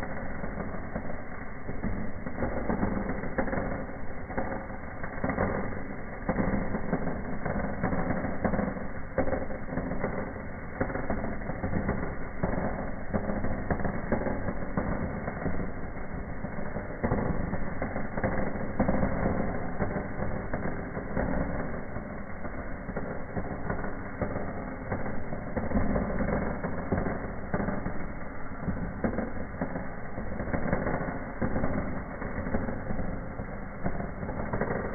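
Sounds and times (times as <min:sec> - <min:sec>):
firework fountain crackling hiss: 0:00.0 - 0:34.9.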